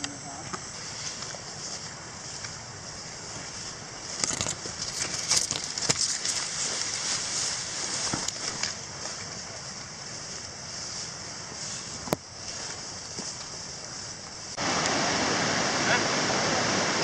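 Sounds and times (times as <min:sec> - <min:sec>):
steady high hiss: 0:00.0 - 0:17.0
dry grass swishing and crackling: 0:00.6 - 0:14.6.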